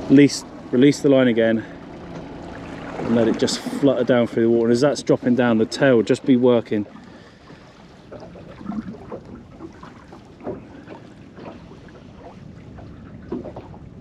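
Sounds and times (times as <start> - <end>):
water lapping against boat hull: 0.0 - 14.0
wind and sea wash: 0.0 - 14.0.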